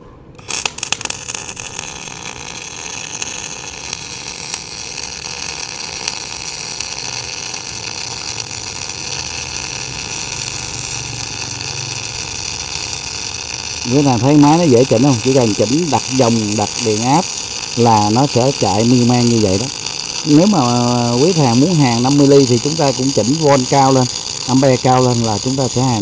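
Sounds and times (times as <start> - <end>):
welding arc crackling hiss: 0.4 - 26.0.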